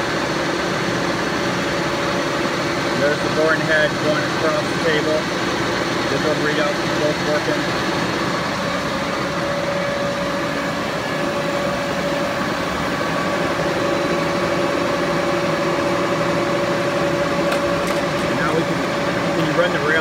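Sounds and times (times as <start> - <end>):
lathe humming with whine: 0.0 - 20.0.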